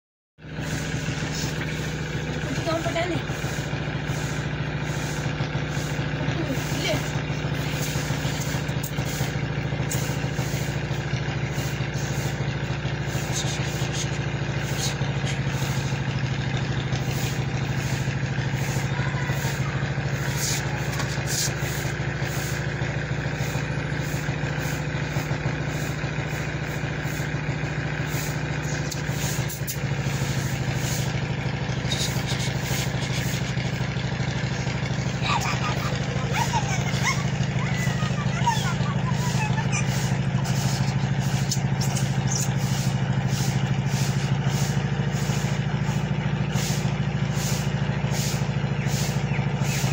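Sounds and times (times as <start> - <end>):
engine idling: 0.4 - 49.9.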